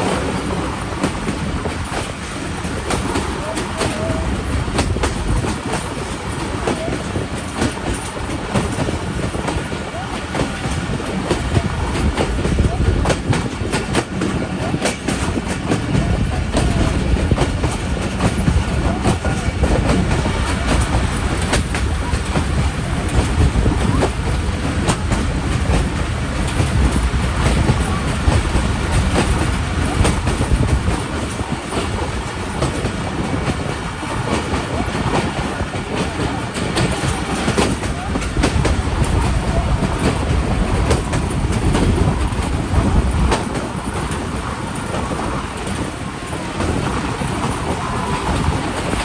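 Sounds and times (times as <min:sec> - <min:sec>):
loud rumble of train wheels: 0:00.0 - 0:49.0
sharp clicks from rails: 0:00.0 - 0:49.0.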